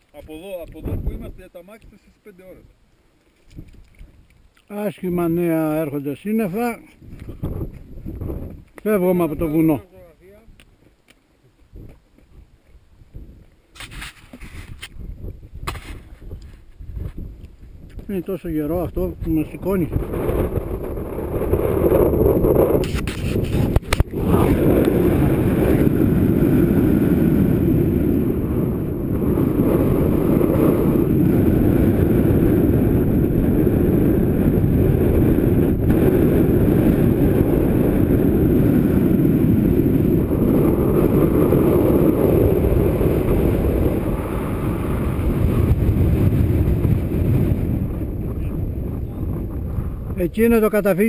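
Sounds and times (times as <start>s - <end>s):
wind buffeting microphone: 0.0s - 2.8s, 3.4s - 51.0s.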